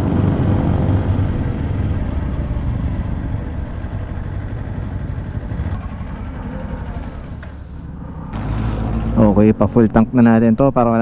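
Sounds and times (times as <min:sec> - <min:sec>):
dirt bike engine running: 0:00.0 - 0:09.8.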